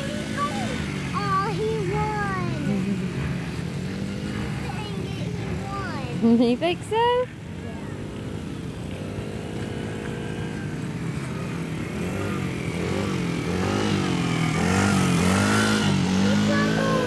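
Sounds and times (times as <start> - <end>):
small quad engine revving: 0.0 - 17.0.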